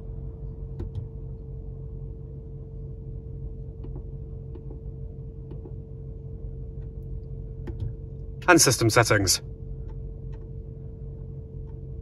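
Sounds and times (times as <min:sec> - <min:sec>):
low cabin hum: 0:00.0 - 0:12.0.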